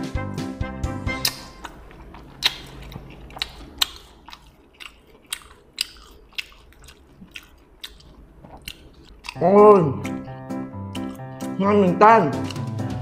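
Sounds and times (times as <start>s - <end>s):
person chewing food: 1.0s - 11.4s, 12.4s - 13.0s.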